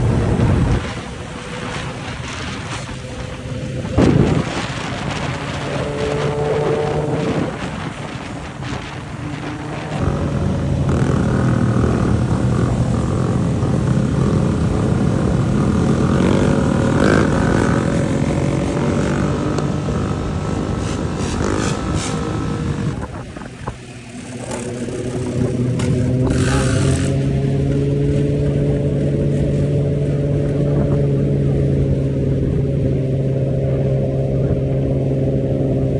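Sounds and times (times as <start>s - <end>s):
dirt bike engine revving: 0.0s - 32.6s.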